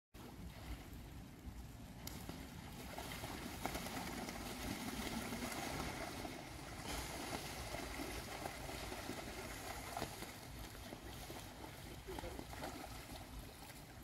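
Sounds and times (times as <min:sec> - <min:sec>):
ducks splashing and flapping wings: 0:02.0 - 0:14.0.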